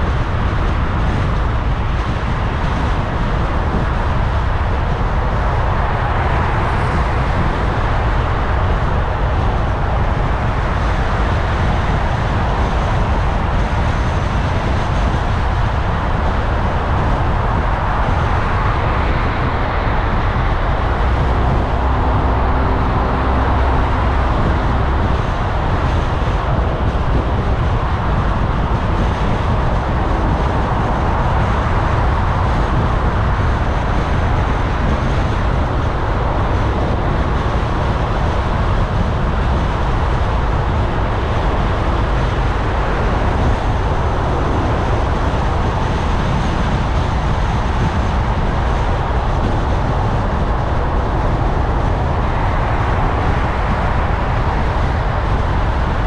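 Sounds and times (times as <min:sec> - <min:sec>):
low engine hum: 0:00.0 - 0:56.0
tyres on the road: 0:00.0 - 0:56.0.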